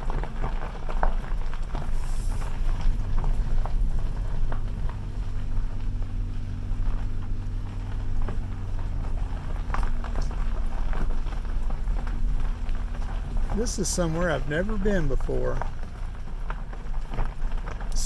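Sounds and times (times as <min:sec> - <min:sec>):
knocks and rattles on gravel: 0:00.0 - 0:18.0
vehicle engine and road rumble: 0:00.0 - 0:18.0.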